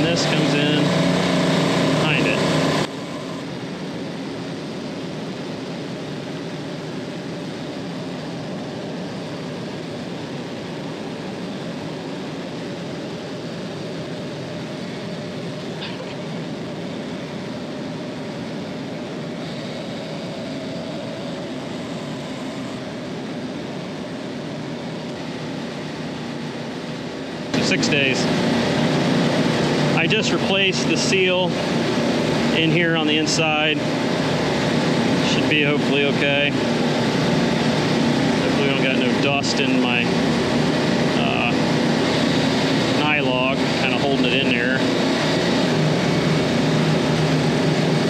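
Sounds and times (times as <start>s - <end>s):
refrigeration compressor drone: 0.0s - 48.0s.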